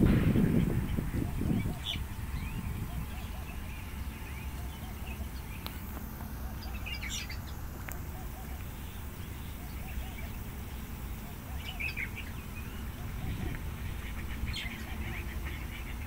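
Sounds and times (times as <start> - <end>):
bird chirps: 0.0 - 16.0
steady low rumble: 0.0 - 16.0.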